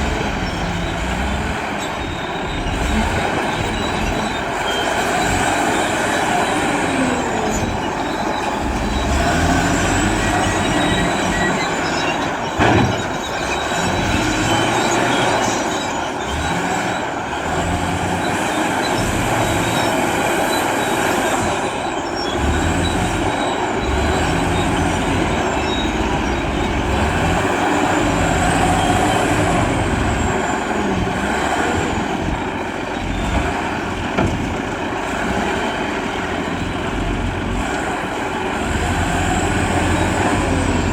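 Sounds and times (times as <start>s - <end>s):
diesel engine revving under load: 0.0s - 40.9s.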